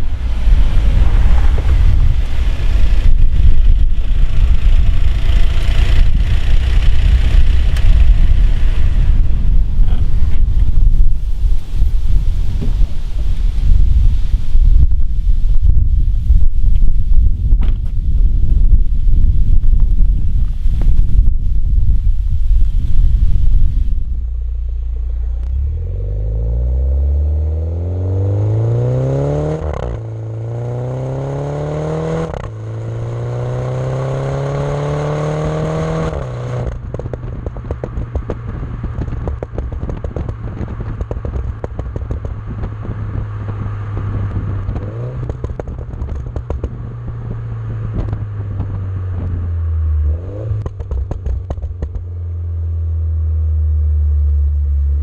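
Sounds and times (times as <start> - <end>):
car engine accelerating: 0.0 - 15.0, 23.4 - 55.0
exhaust crackling and popping: 0.0 - 25.9, 28.9 - 55.0.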